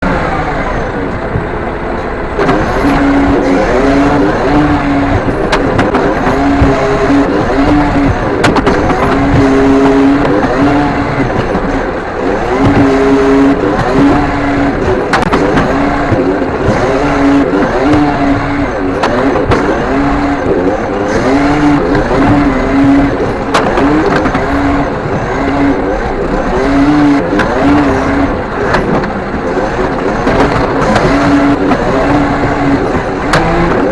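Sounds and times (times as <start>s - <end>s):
hydraulic hum: 0.0s - 33.9s
truck engine revving: 0.0s - 33.9s.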